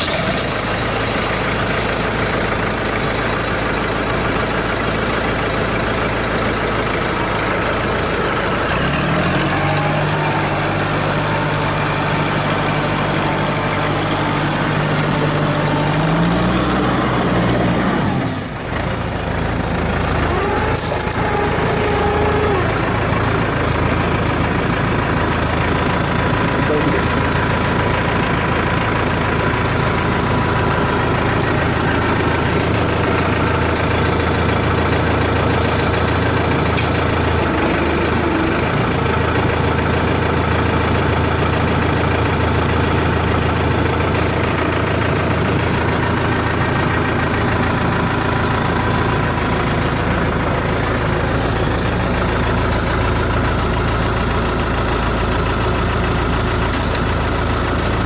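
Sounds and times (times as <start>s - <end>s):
tractor diesel engine idling: 0.0s - 58.0s.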